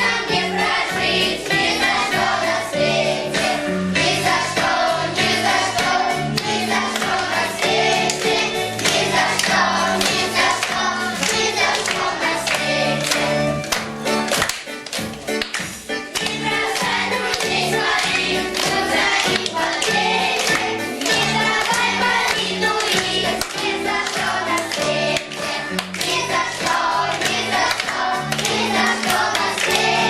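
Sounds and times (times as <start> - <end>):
choir singing upbeat song: 0.0 - 14.4, 15.5 - 30.0.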